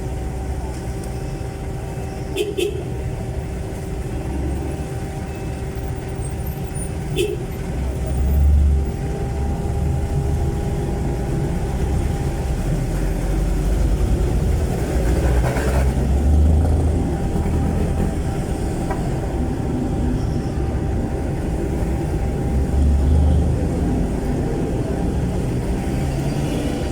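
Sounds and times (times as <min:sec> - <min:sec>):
diesel engine with loud exhaust: 0:00.0 - 0:26.9.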